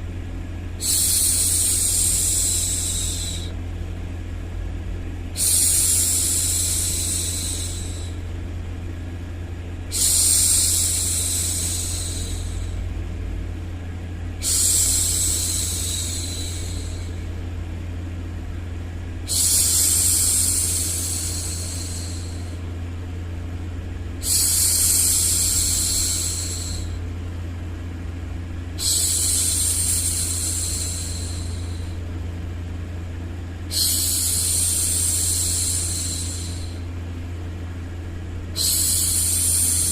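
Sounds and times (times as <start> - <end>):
low white noise hum: 0.0 - 39.9.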